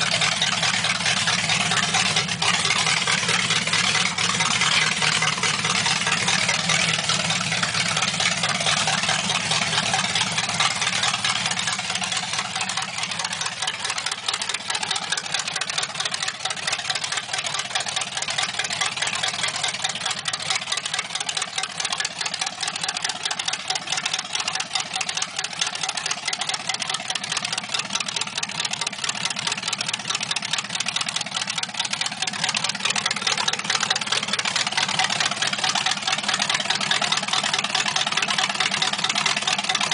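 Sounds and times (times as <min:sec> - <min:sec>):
engine idling through open headers: 0:00.0 - 0:39.9.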